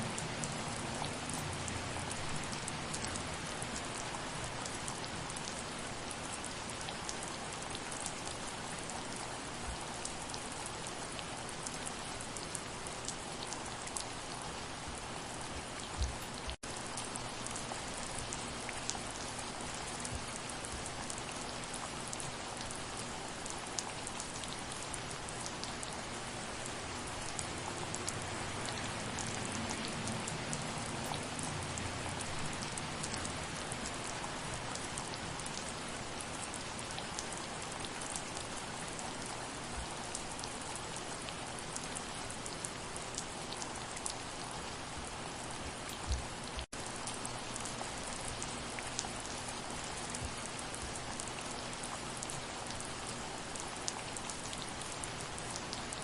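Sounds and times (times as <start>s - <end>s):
soft rain: 0.0s - 56.0s.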